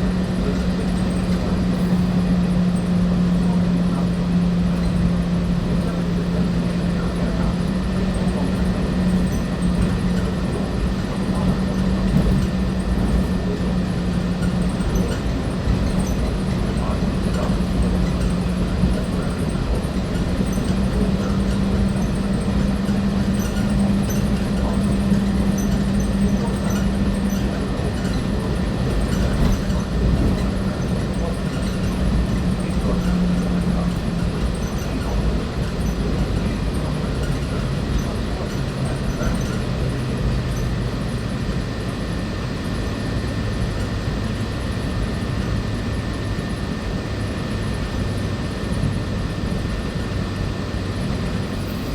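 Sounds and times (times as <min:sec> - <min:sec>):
monorail rumbling: 0:00.0 - 0:41.4, 0:48.8 - 0:51.9.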